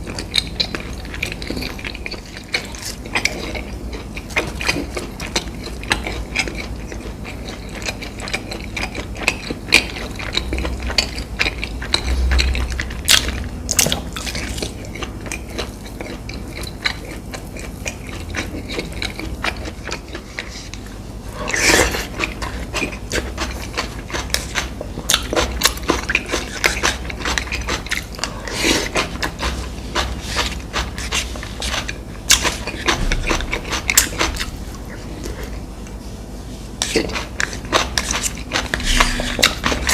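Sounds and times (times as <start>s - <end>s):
crunching and chewing fried food: 0.0s - 39.9s.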